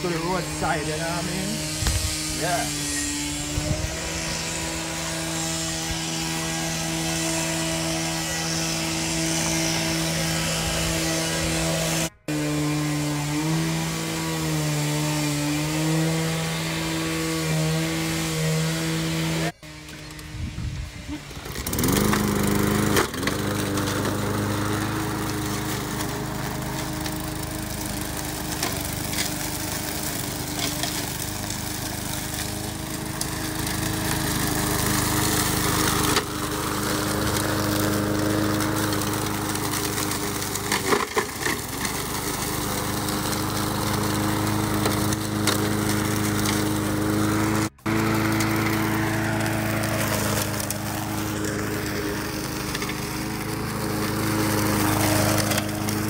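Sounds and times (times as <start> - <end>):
push lawn mower engine running: 0.0 - 56.0.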